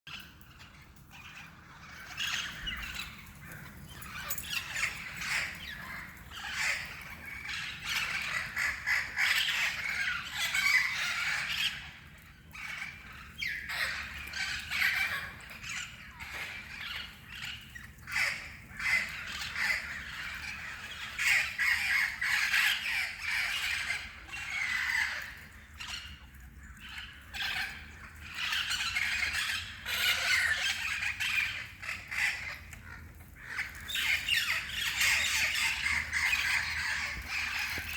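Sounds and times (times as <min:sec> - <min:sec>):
parrots squawking and chattering: 0:00.1 - 0:37.9.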